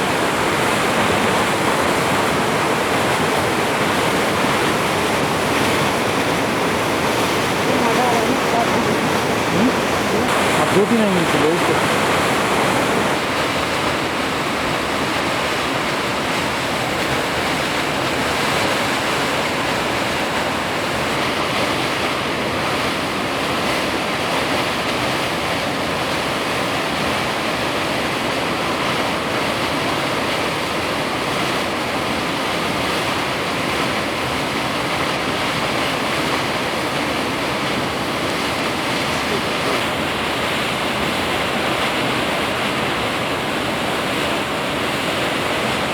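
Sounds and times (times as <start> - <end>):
roar of heavy falling water: 0.0 - 45.9.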